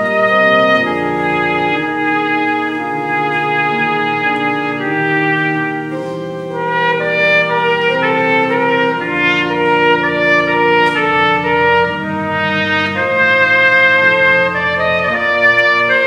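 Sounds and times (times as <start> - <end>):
pipe organ chords: 0.0 - 16.0
trumpet slow melody: 0.0 - 16.0.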